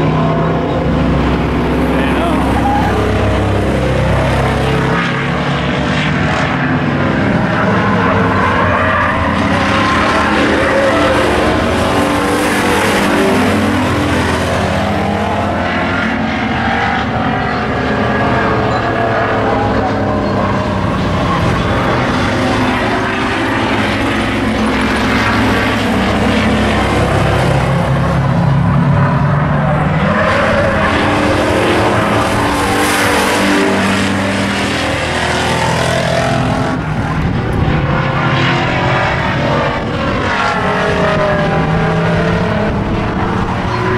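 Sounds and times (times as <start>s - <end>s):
race car engines running hard: 0.0s - 43.9s.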